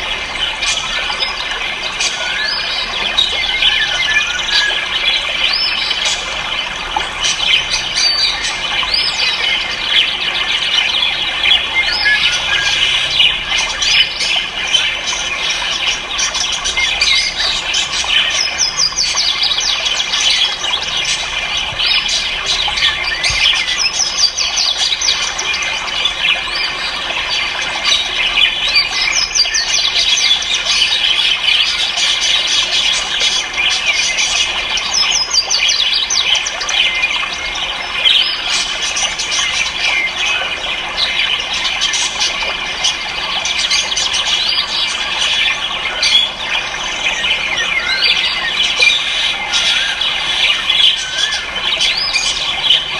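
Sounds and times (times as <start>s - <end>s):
caged birds chirping and squawking: 0.0s - 52.9s.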